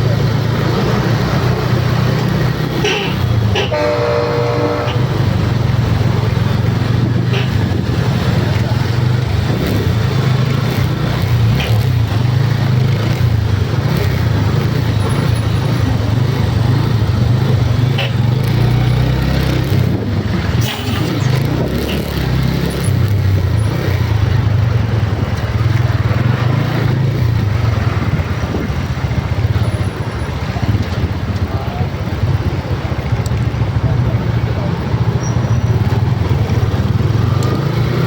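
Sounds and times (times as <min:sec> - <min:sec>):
road noise: 0:00.0 - 0:38.0
vehicle engine drone: 0:00.0 - 0:38.0.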